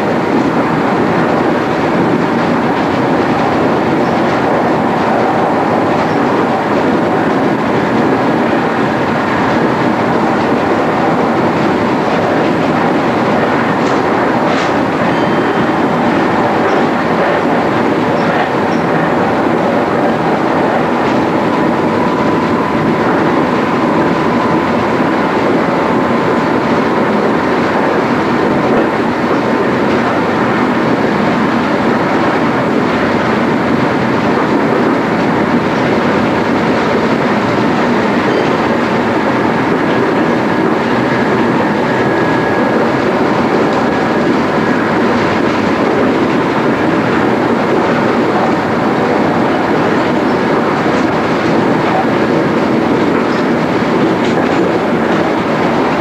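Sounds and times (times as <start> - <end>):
train wheel and rail noise: 0.0 - 56.0.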